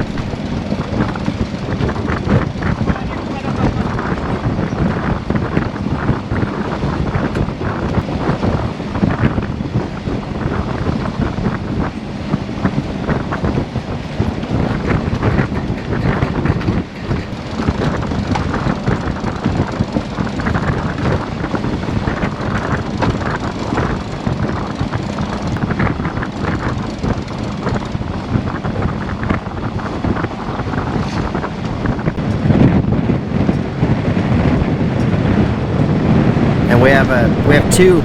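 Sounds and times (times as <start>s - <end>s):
wind buffeting the microphone: 0.0s - 38.0s.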